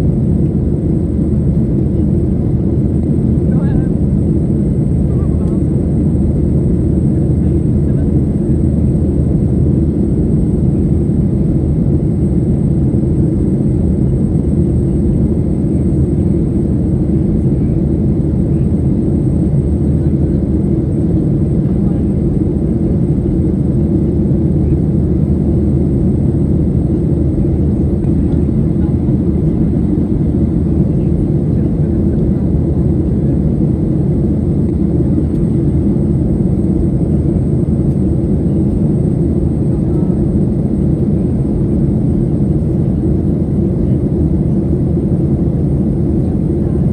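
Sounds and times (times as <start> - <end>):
jet engines rumbling: 0.0 - 46.9.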